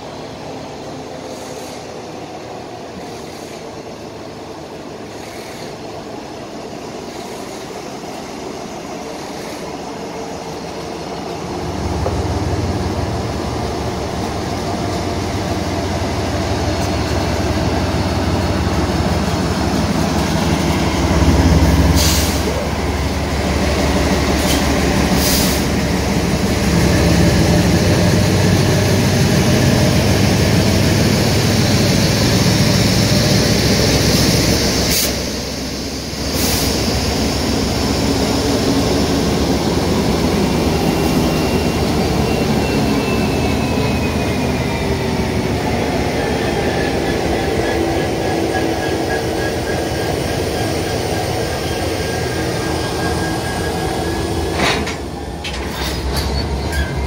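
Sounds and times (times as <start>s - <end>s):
diesel locomotive engine rumble: 0.0s - 57.0s
train rolling noise: 0.0s - 57.0s.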